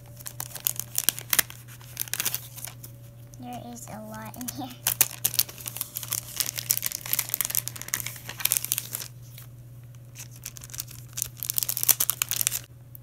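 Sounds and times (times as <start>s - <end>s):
plastic packaging crinkling: 0.0s - 12.7s.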